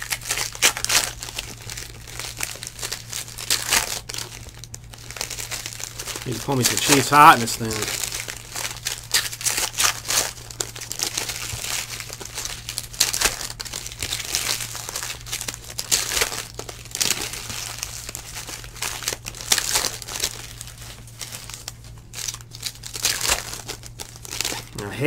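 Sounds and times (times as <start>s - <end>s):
foil wrappers crinkling and tearing: 0.0s - 25.0s
steady low hum: 0.0s - 25.0s.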